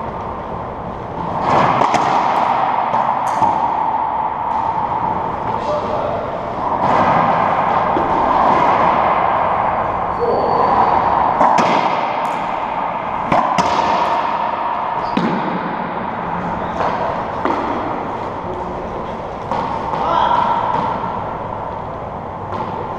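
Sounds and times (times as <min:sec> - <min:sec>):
steady background noise: 0:00.0 - 0:22.9
racquetball cracks with echo: 0:00.4 - 0:22.9.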